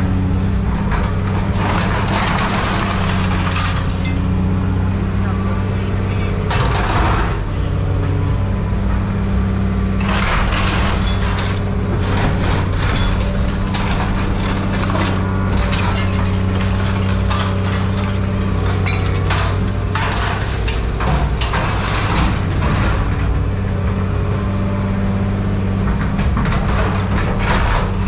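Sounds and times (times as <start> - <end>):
heavy diesel machine running: 0.0 - 28.0
scrap metal crunching and clattering: 0.0 - 28.0.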